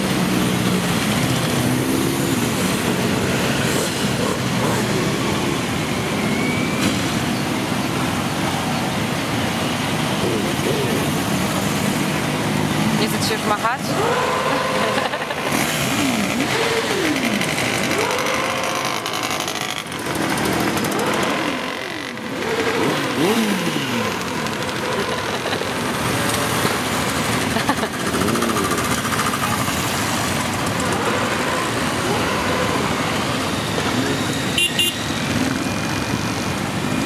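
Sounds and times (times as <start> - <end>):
motorcycle engine revving: 0.0 - 8.7, 10.0 - 37.0
motorcycles riding past: 0.0 - 37.0.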